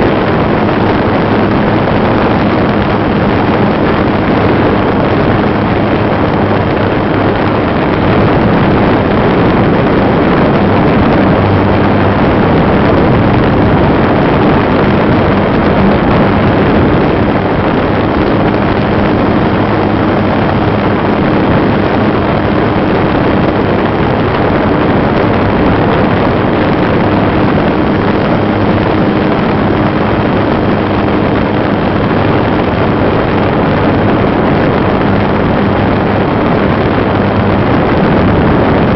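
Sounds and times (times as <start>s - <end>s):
model plane propeller rushing: 0.0s - 38.9s
wind on microphone: 0.0s - 38.9s.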